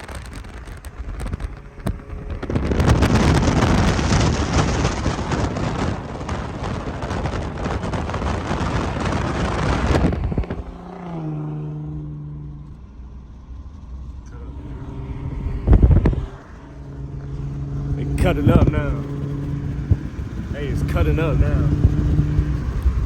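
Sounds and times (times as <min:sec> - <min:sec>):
car engine steady note: 0:00.0 - 0:23.0
wind and road noise: 0:00.0 - 0:23.0.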